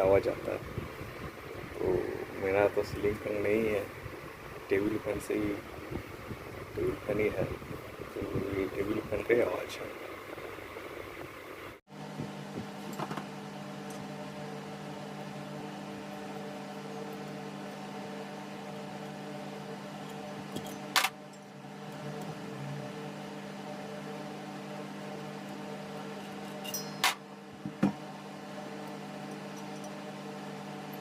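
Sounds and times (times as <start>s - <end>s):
table fan motor hum: 0.0s - 31.0s.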